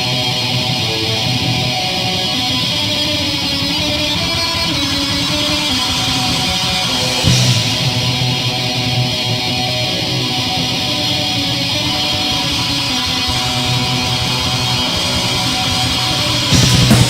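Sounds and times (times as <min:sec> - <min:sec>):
distorted electric guitars: 0:00.0 - 0:17.0.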